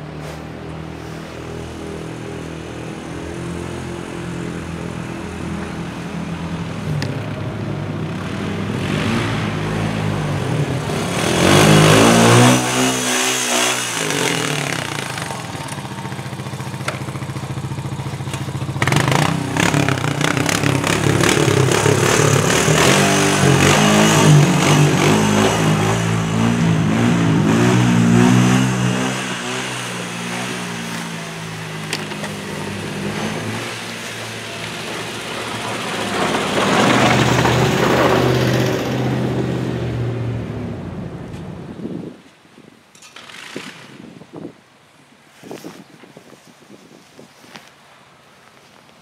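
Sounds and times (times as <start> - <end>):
atv engine revving: 0.0 - 41.1, 43.0 - 44.0.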